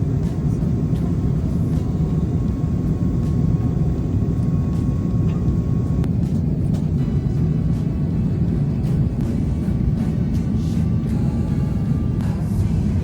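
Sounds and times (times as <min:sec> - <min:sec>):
airliner cabin rumble: 0:00.0 - 0:13.0
faint steady whine: 0:00.0 - 0:13.0.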